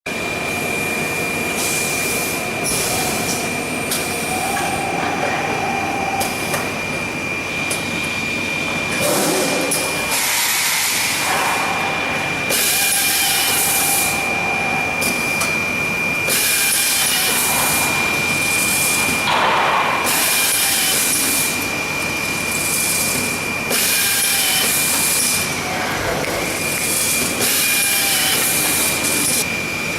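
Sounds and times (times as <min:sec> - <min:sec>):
machine high whine: 0:00.1 - 0:29.9.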